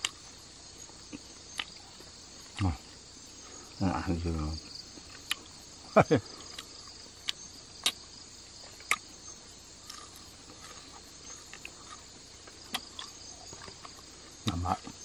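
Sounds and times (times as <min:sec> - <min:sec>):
crunchy chewing: 0:00.0 - 0:03.8, 0:04.6 - 0:15.0
night insects chirring: 0:00.0 - 0:15.0.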